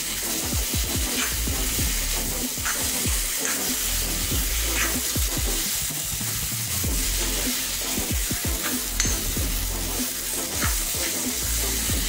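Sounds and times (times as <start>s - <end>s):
background music: 0.0s - 12.0s
food sizzling: 0.0s - 12.0s.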